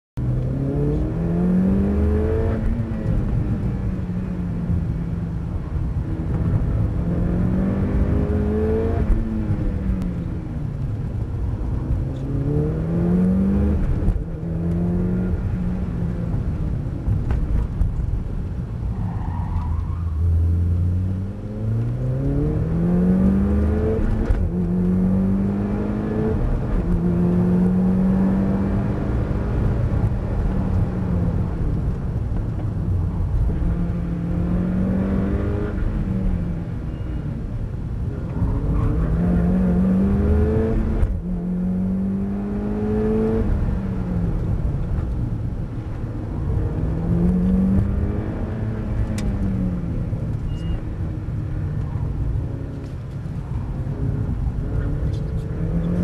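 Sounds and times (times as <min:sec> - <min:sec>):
road rumble: 0:00.2 - 0:56.0.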